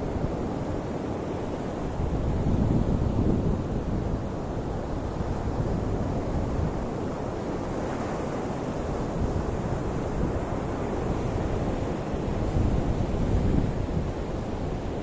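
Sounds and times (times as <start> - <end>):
ocean waves washing in: 0.0 - 15.0
wind rumble on microphone: 0.0 - 15.0.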